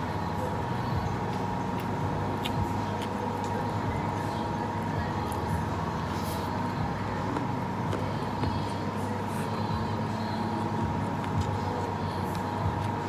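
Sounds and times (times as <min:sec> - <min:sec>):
mechanical hum with low rumble: 0:00.0 - 0:13.0
thin constant whine: 0:00.0 - 0:13.0
man chewing food: 0:01.1 - 0:10.0, 0:10.6 - 0:13.0.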